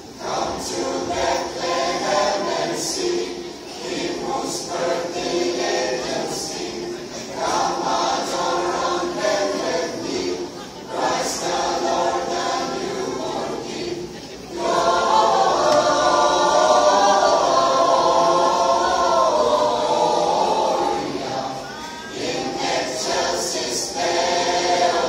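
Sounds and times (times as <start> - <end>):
mixed choir singing a carol: 0.0 - 25.0.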